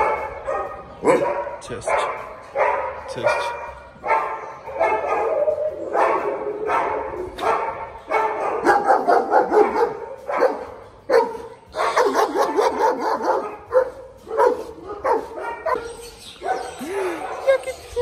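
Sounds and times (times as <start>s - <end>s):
many dogs barking: 0.0s - 18.0s.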